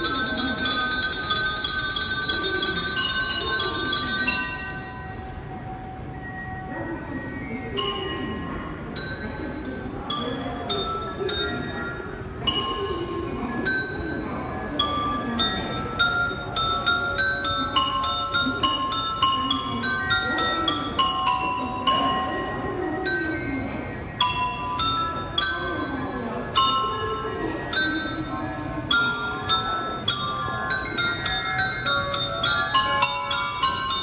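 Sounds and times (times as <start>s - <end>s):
faint voices murmuring: 0.0s - 34.0s
porcelain bells playing a melody: 0.0s - 34.0s.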